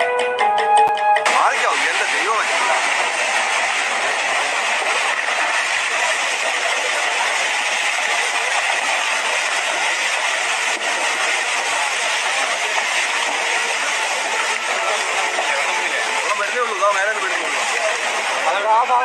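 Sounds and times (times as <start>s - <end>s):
debris flow rushing down slope: 1.3s - 19.0s.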